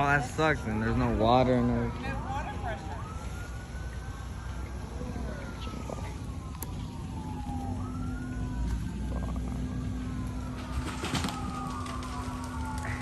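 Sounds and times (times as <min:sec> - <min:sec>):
emergency siren wailing: 0:00.0 - 0:13.0.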